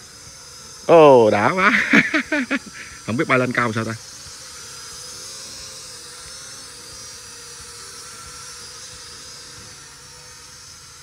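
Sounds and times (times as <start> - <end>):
toy drone propellers whirring: 0.0 - 11.0.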